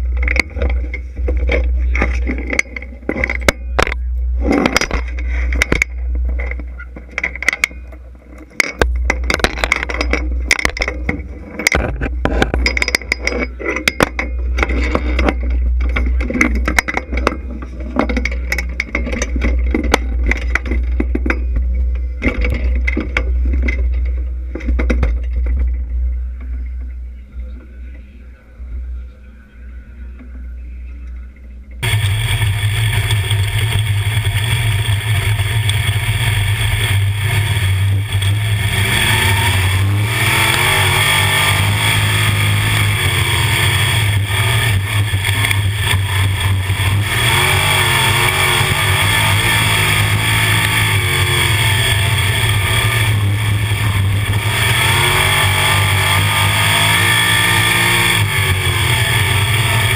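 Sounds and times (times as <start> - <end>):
race car engines revving: 0.0 - 28.0, 31.8 - 59.9.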